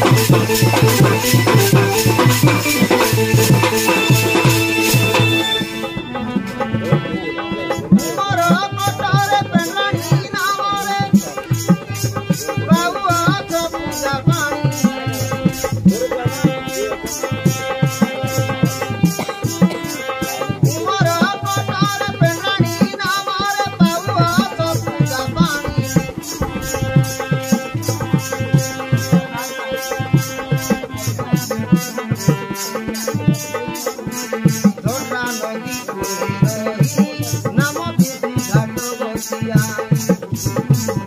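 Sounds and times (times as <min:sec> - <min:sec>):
electronic keyboard melody: 0:00.0 - 0:39.4
rattle and drum beat: 0:00.0 - 0:41.0.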